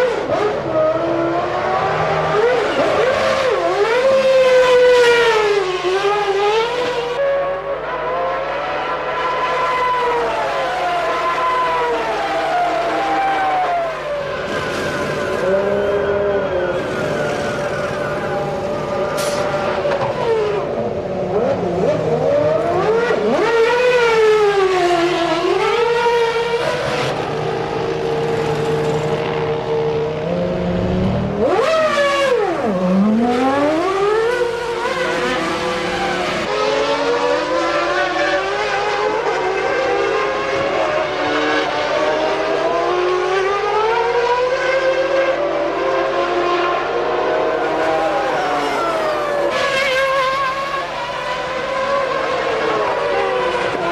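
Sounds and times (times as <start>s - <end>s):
racing car engines screaming: 0.0s - 53.9s.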